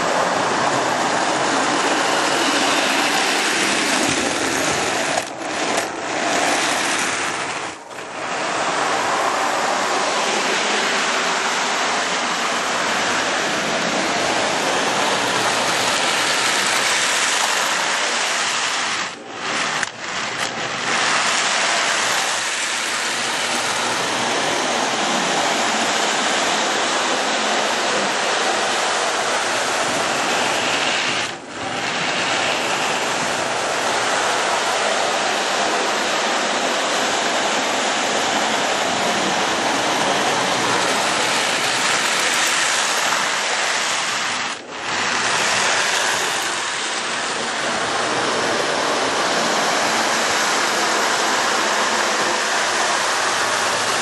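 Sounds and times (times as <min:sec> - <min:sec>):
toy train motor whirring: 0:00.2 - 0:54.0.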